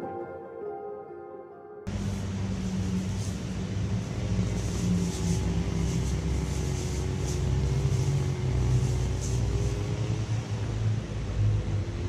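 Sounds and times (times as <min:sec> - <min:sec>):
vehicle engine rumbling: 0:01.9 - 0:12.0.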